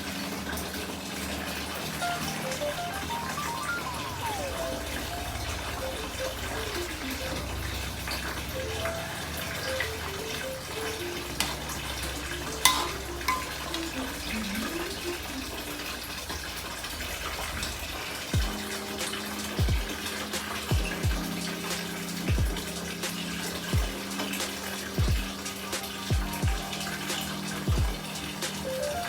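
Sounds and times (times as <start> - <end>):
soft lo-fi music: 0.0 - 29.0
water running from a tap: 0.0 - 29.0.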